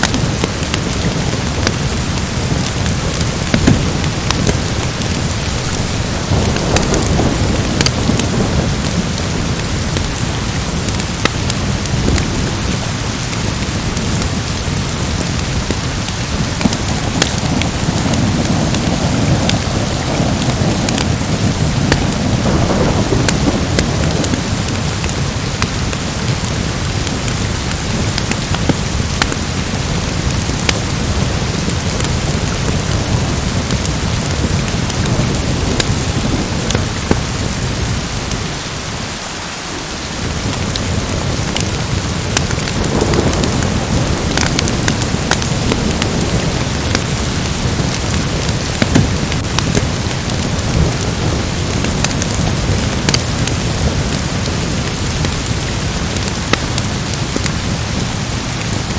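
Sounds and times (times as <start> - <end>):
thunder rumbling: 0.0 - 39.0, 39.8 - 58.9
fire crackling: 0.0 - 58.9
steady rain: 0.0 - 58.9.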